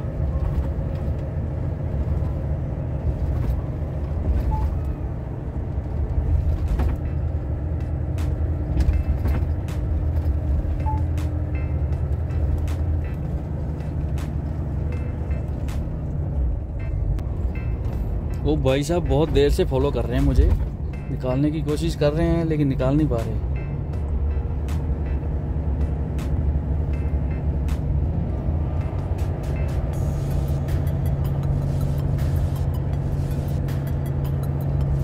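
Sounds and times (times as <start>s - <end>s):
truck diesel engine running: 0.0s - 35.0s.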